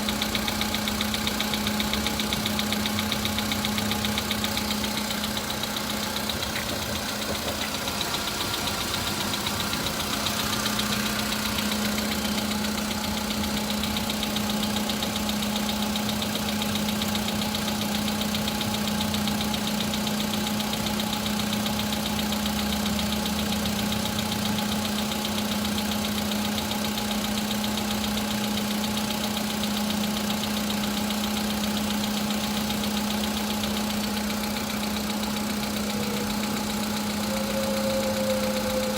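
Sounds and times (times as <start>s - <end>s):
car engine idling: 0.0s - 38.9s
rapid metallic engine knock: 0.0s - 38.9s.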